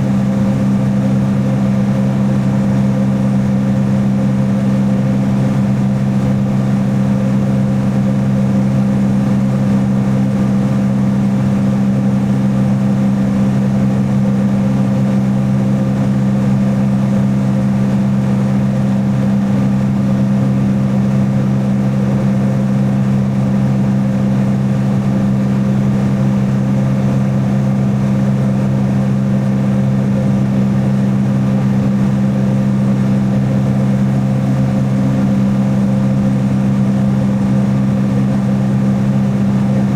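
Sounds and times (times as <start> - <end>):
jet ski engine droning: 0.0 - 39.9.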